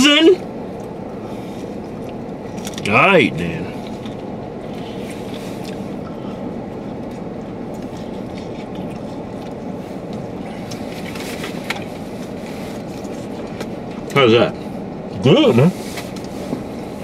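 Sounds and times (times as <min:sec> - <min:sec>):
air-conditioning fan hiss: 0:00.0 - 0:17.0
car engine idling: 0:00.0 - 0:17.0.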